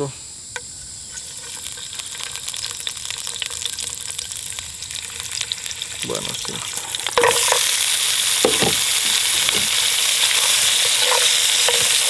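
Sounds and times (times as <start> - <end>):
oil sizzling and crackling: 0.6 - 12.0.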